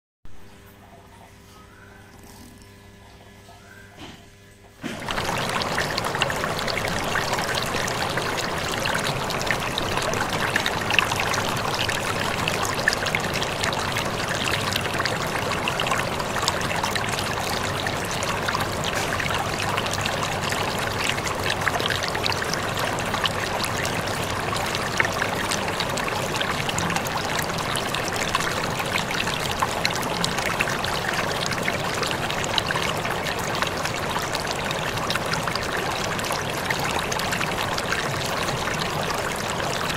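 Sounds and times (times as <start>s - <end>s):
aquarium water bubbling: 0.3s - 39.9s.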